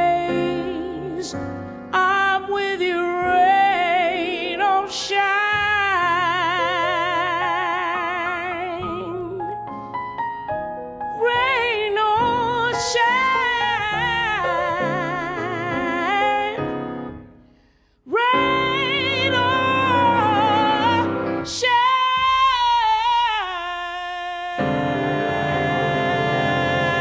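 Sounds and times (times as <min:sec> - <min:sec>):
woman singing jazz with vibrato: 0:00.0 - 0:09.7, 0:11.2 - 0:16.8, 0:18.1 - 0:27.0
piano accompaniment: 0:00.0 - 0:27.0.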